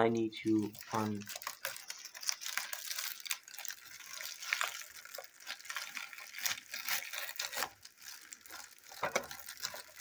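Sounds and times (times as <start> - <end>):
plastic mailer crinkling: 0.1 - 10.0.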